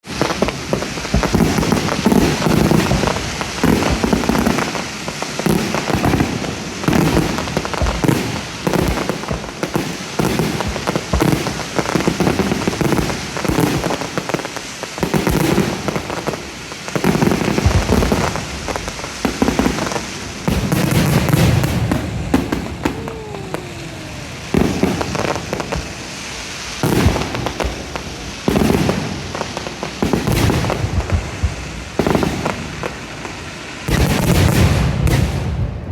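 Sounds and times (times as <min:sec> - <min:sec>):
firework shells booming: 0:00.0 - 0:14.2, 0:15.0 - 0:35.9
firework crackling: 0:00.0 - 0:35.9.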